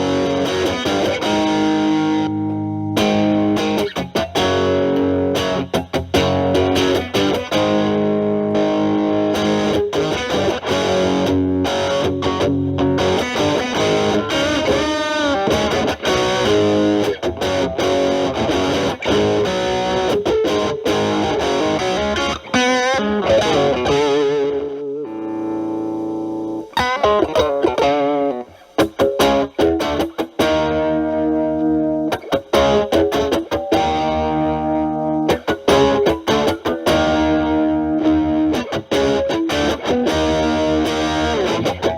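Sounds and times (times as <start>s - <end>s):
distorted electric guitar licks: 0.0s - 41.9s.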